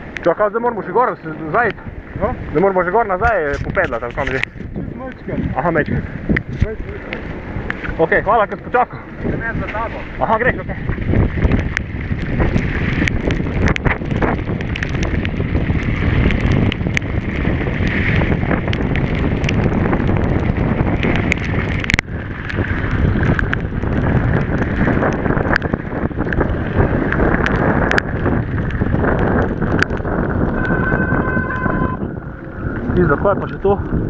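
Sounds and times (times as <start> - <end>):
bike rattling: 0.0 - 34.0
wind on microphone: 0.0 - 34.0.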